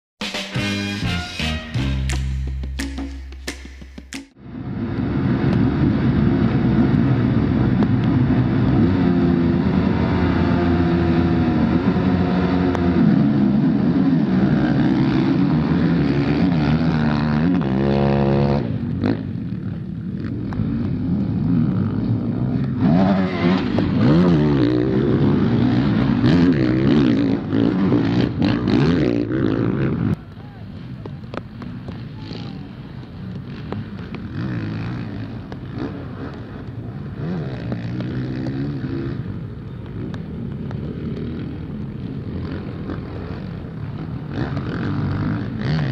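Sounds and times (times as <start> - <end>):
motocross engines revving: 4.6 - 45.9.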